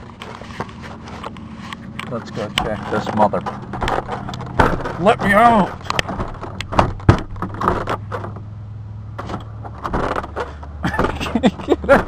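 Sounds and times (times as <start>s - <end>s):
steady low car hum: 0.0s - 12.0s
car door handle clicks and rattles: 1.2s - 8.5s, 9.1s - 12.0s.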